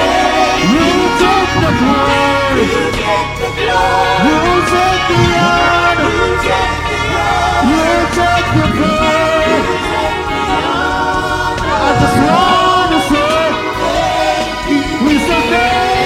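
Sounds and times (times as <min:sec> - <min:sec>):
gospel music with singing: 0:00.0 - 0:16.0.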